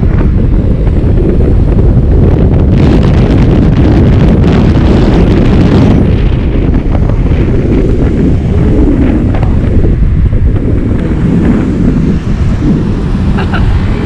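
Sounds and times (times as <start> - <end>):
scooter engine and road noise: 0.0 - 14.0
wind buffeting microphone: 0.0 - 14.0.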